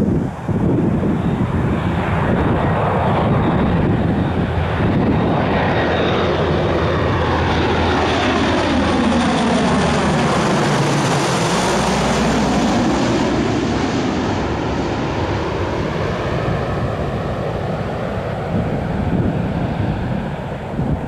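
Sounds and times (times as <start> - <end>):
propeller aircraft passing overhead: 0.0 - 21.0.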